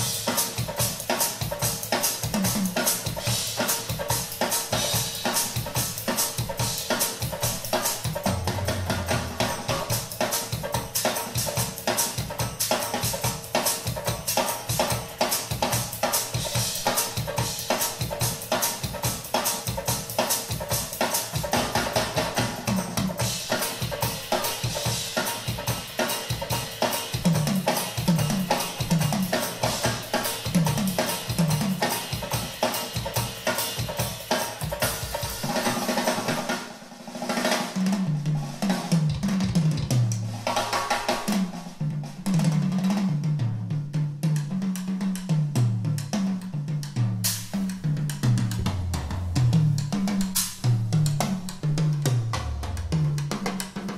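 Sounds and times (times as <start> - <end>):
drum kit solo over loudspeakers: 0.0 - 53.9.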